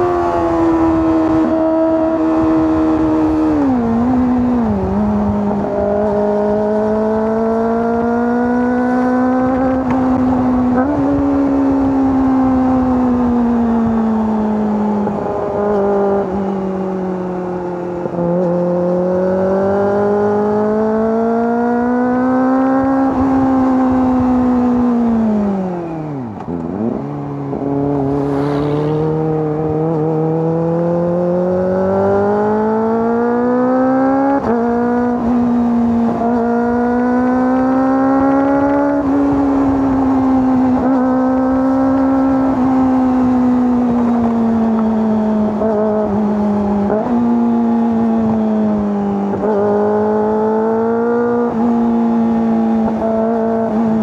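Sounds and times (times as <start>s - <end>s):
motorcycle engine and exhaust revving: 0.0s - 54.0s.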